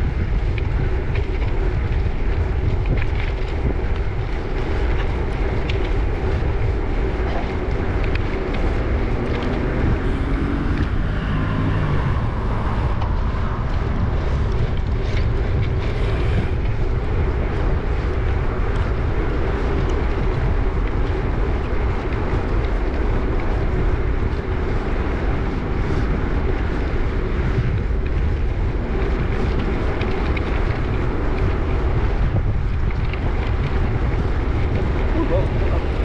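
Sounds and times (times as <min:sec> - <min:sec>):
wind rush over microphone: 0:00.0 - 0:36.0.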